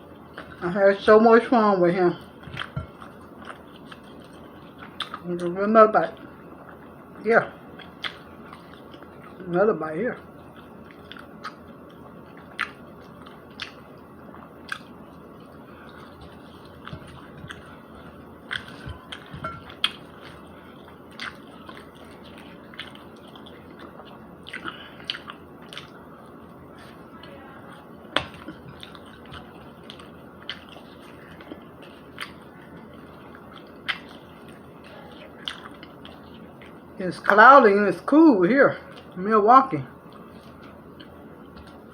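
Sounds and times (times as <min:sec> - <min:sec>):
person chewing food: 0:02.2 - 0:05.5, 0:06.1 - 0:09.4, 0:10.2 - 0:37.0, 0:38.8 - 0:39.2, 0:39.9 - 0:41.9.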